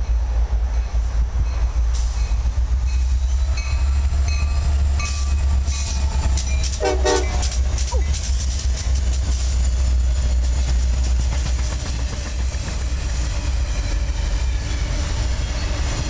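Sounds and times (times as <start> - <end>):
diesel locomotive engine rumble: 0.0 - 16.0
train wheels on rails: 0.0 - 16.0.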